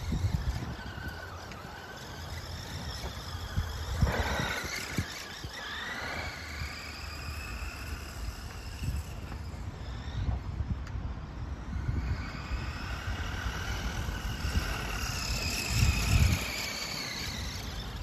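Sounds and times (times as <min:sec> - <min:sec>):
rc truck electric motor whining: 0:00.0 - 0:18.0.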